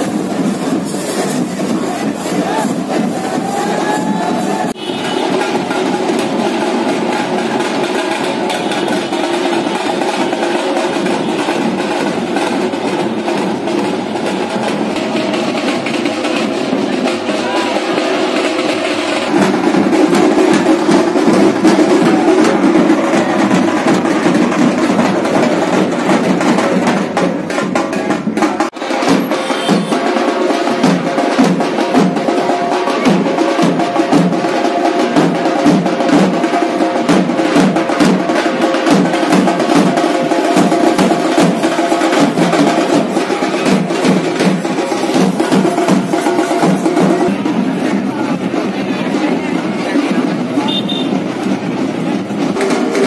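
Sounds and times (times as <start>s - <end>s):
snare drum: 0.0s - 53.0s
street drummers drumming: 0.0s - 53.0s.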